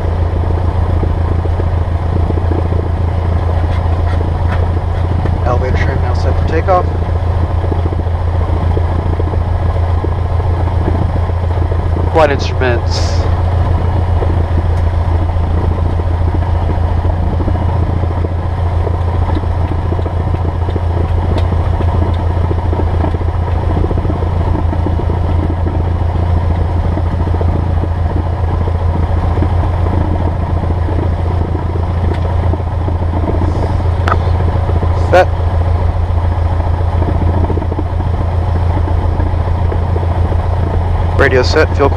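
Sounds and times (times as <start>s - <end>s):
aircraft engine idling: 0.0s - 41.9s.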